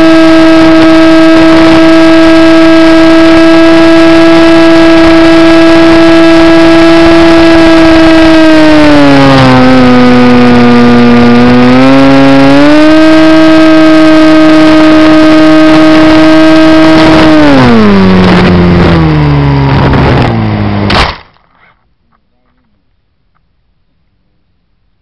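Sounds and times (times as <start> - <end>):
model aircraft motor whine: 0.0 - 21.2.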